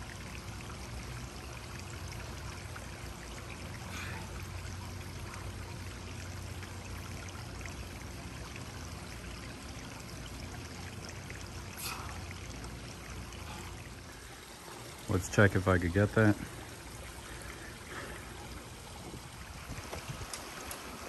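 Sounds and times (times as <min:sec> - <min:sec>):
steady low hum: 0:00.0 - 0:21.0
water splashing from pool feature: 0:00.0 - 0:21.0.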